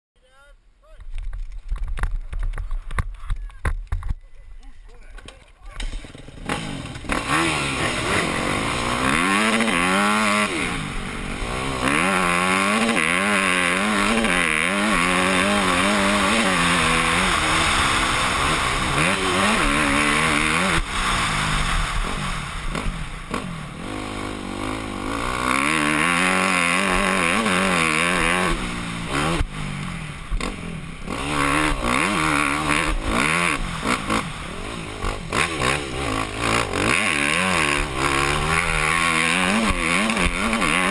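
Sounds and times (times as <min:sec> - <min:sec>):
dirt bike engine revving: 0:05.7 - 0:40.9.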